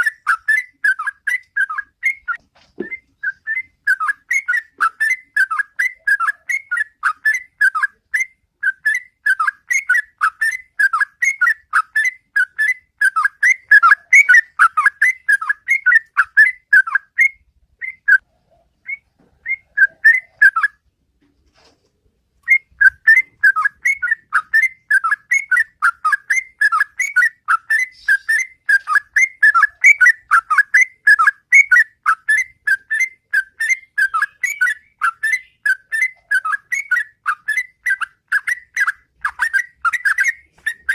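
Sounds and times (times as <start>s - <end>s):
bird singing whistled notes: 0.0s - 18.2s, 18.8s - 20.8s, 22.4s - 40.9s.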